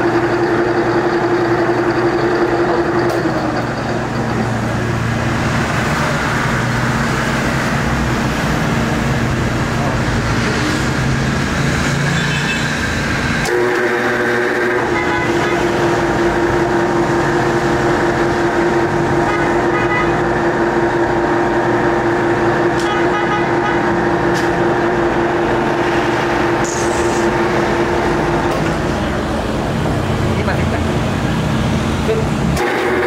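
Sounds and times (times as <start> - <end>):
lathe humming: 0.0 - 10.4, 12.9 - 33.0.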